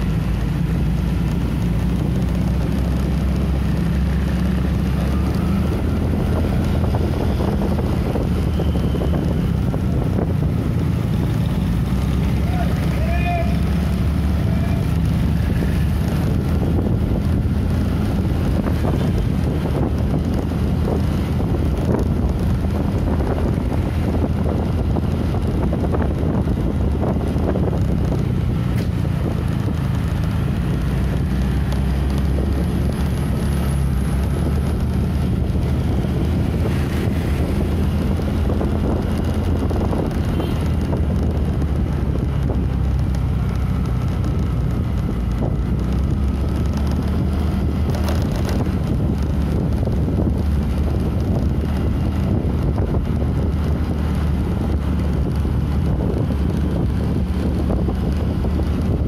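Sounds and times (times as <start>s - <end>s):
motorcycle engine and road rumble: 0.0s - 59.0s
wind buffeting microphone: 0.0s - 59.0s.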